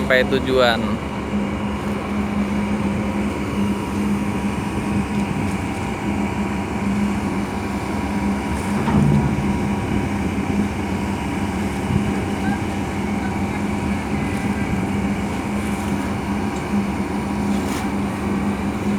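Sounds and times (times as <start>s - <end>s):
low engine drone: 0.0s - 18.9s
noisy water wash: 0.0s - 18.9s.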